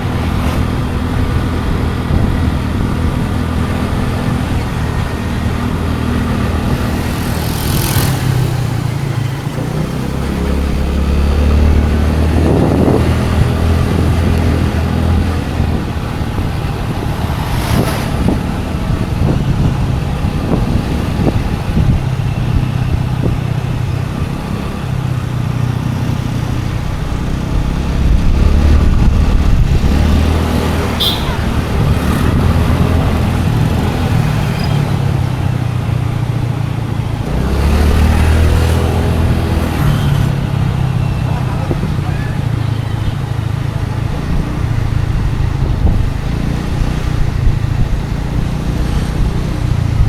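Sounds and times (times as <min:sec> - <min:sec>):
scooter engine running: 0:00.0 - 0:50.0.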